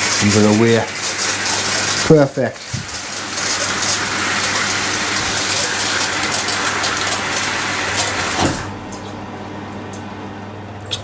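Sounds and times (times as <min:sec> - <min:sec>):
electric shower spraying water: 0:00.0 - 0:09.1.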